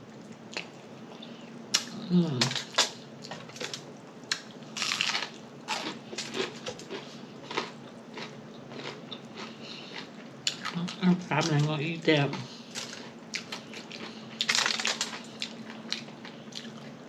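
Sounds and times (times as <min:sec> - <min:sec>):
person chewing crunchy food: 0:00.2 - 0:17.0.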